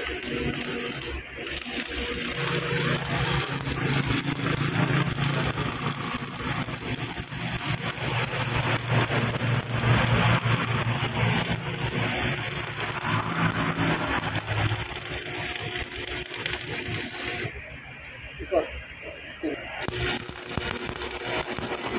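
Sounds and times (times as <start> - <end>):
welding arc sputtering crackle: 0.0 - 21.9.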